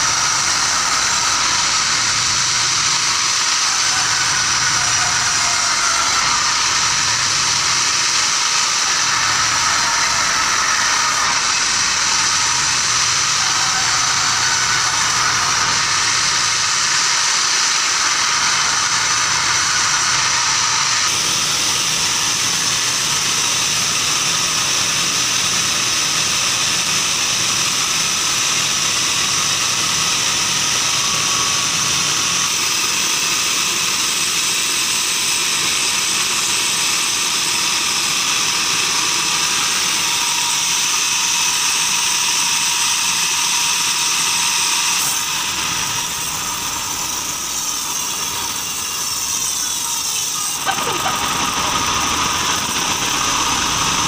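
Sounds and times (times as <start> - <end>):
bandsaw machine drone: 0.0 - 54.0
high blade whine: 0.0 - 54.0.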